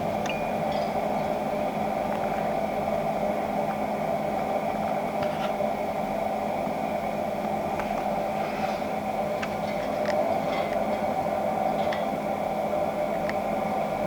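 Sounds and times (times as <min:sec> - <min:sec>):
stove fan whirring: 0:00.0 - 0:14.0.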